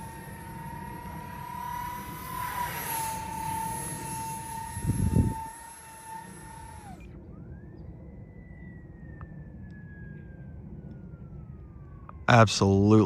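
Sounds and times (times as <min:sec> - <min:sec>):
electric motors whining: 0:00.0 - 0:12.2
fainter whine: 0:00.0 - 0:13.0.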